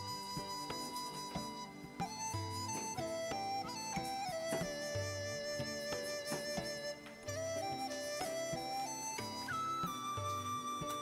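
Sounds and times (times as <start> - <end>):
slow traditional instrumental music: 0.0 - 11.0.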